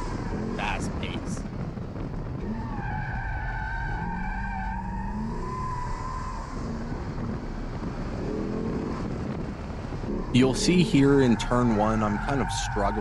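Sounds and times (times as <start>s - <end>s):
tires squealing: 2.0s - 13.0s.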